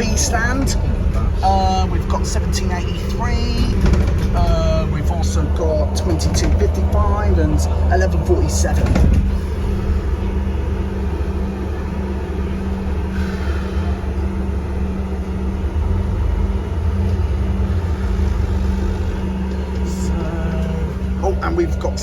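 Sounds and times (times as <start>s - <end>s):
bus engine droning: 0.0s - 22.0s.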